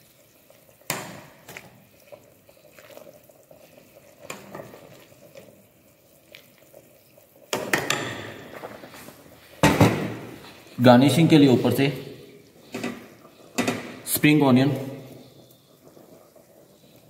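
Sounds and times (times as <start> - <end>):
gravy bubbling: 0.0 - 17.0.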